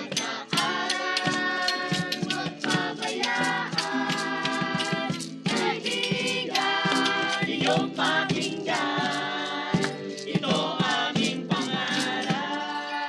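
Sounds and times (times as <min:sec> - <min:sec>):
strummed guitar: 0:00.0 - 0:13.0
young voices singing in unison: 0:00.0 - 0:13.0.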